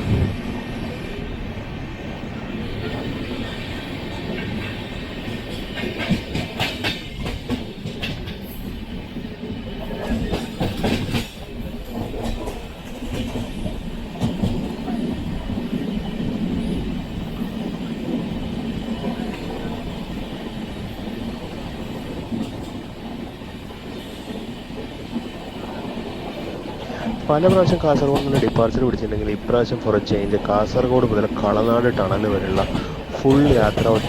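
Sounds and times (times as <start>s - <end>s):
train wheels rumbling on rail: 0.0s - 34.0s
rail joint clicks: 2.3s - 34.0s.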